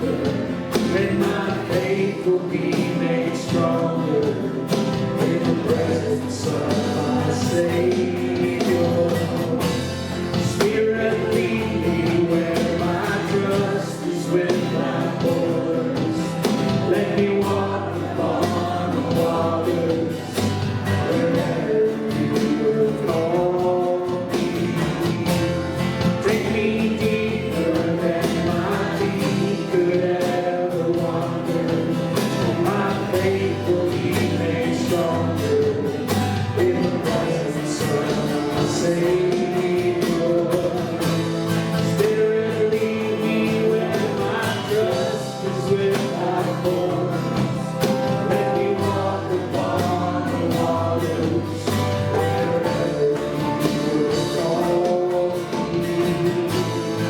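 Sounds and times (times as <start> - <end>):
instrumental accompaniment: 0.0 - 57.0
voices singing gospel song: 0.0 - 57.0.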